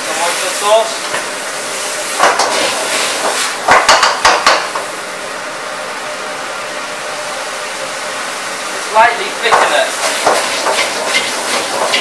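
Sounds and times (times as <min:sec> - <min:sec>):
gas burner rushing: 0:00.0 - 0:12.0.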